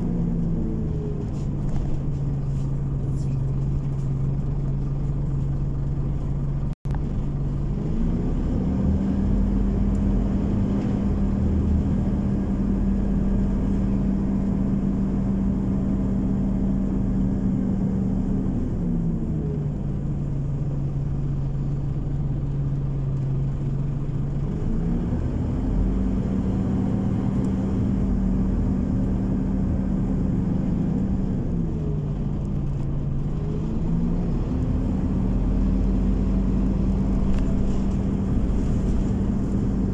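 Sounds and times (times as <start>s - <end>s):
bus engine humming: 0.0s - 39.9s.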